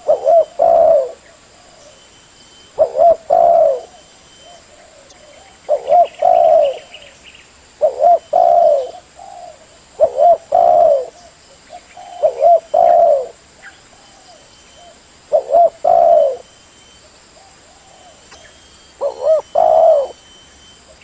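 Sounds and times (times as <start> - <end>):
dove cooing: 0.0 - 2.0, 2.6 - 7.2, 7.8 - 16.5, 17.4 - 21.0.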